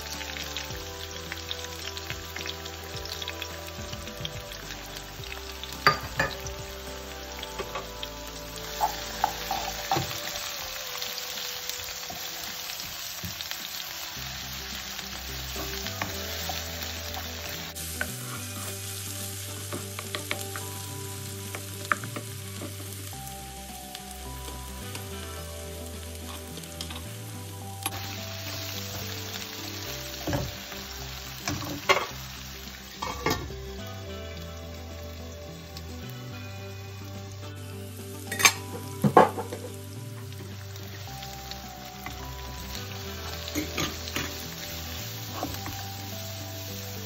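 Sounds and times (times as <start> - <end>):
onions sizzling in hot oil: 0.0 - 47.0.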